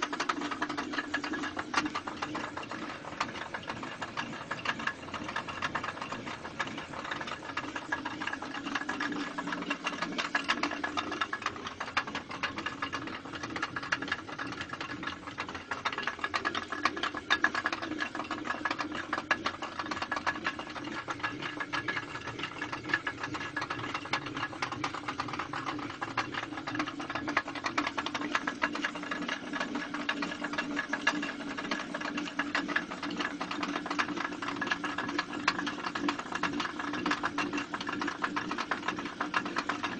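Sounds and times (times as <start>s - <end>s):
mill humming: 0.0s - 39.9s
water-powered mill clattering: 0.0s - 39.9s.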